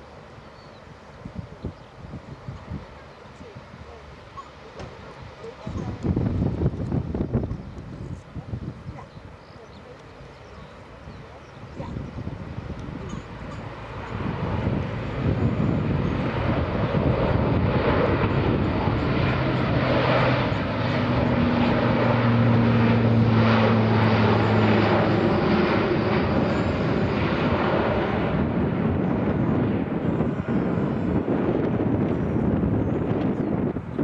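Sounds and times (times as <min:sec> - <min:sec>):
aircraft engine flying over: 0:00.0 - 0:34.0.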